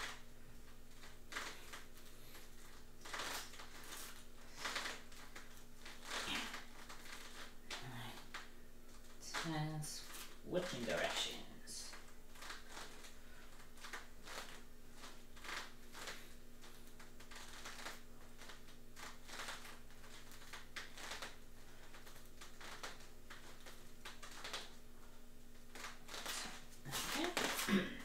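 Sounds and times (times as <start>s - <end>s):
soft rustles: 0.0s - 27.9s
low electrical hum: 0.0s - 28.0s.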